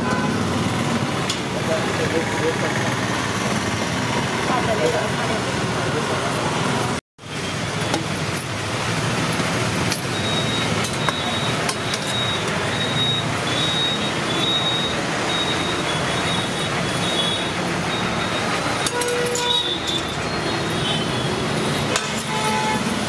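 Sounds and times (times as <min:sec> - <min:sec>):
passing traffic: 0:00.0 - 0:23.0.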